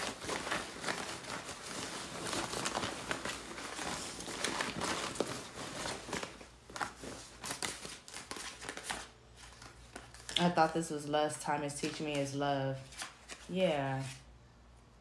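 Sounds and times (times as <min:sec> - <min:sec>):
cards being shuffled: 0:00.0 - 0:10.6, 0:11.8 - 0:14.3.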